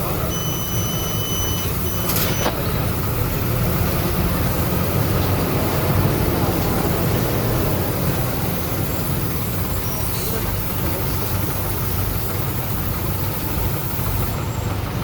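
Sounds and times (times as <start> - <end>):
bus engine rumble inside cabin: 0.0 - 15.0.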